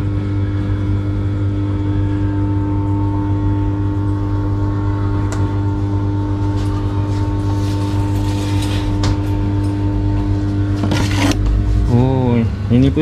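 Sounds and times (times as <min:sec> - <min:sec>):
low electrical machine hum: 0:00.0 - 0:13.0.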